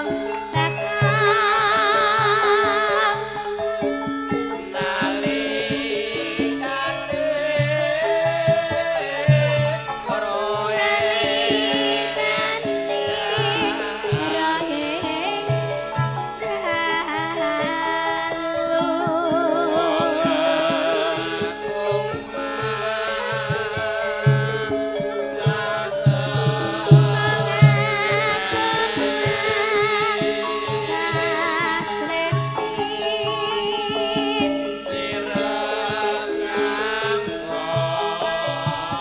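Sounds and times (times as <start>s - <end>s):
gamelan ringing tones: 0.0s - 39.0s
person singing: 0.0s - 39.0s.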